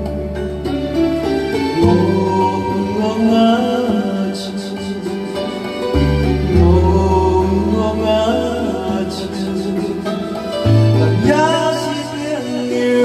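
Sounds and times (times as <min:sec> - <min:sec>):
backing track with bass: 0:00.0 - 0:13.0
person singing: 0:00.0 - 0:13.0.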